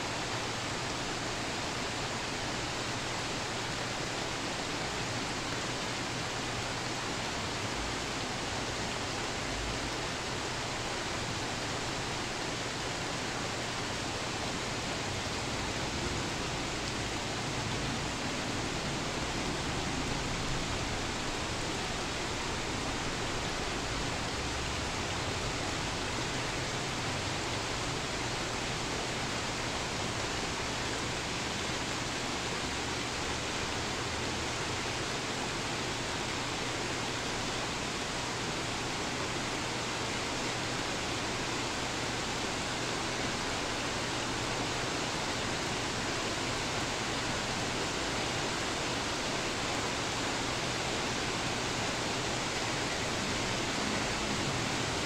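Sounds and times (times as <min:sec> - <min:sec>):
heavy rain falling: 0:00.2 - 0:55.0.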